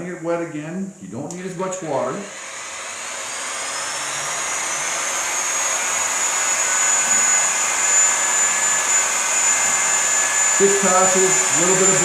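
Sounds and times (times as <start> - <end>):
grinder high whine: 1.8 - 12.0
polishing pad hissing on stone: 2.3 - 12.0.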